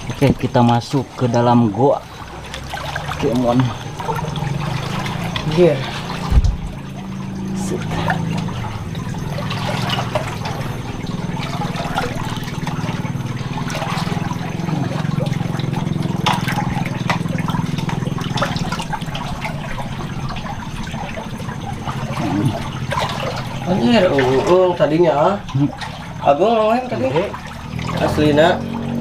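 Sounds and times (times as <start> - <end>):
flowing water rushing: 0.0 - 29.0
water splashing and trickling: 0.0 - 29.0.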